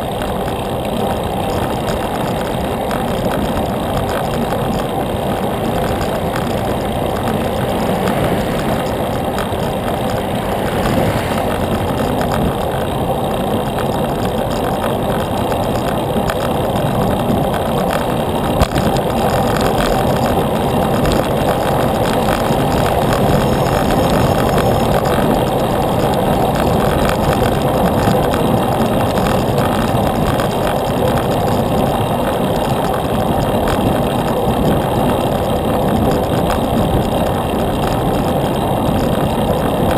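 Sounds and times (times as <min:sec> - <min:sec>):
bicycle wind and road noise: 0:00.0 - 0:39.9.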